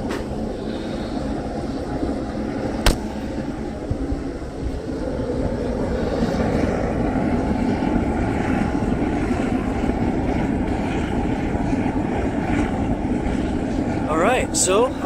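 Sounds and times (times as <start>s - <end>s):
furnace burner roaring: 0.0s - 15.0s.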